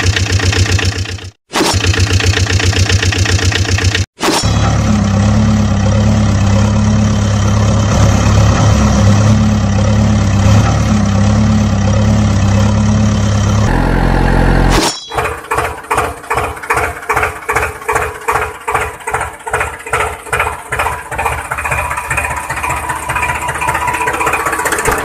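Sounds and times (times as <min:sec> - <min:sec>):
engine chugging rhythmically: 0:00.0 - 0:25.0
engine idling: 0:00.0 - 0:25.0.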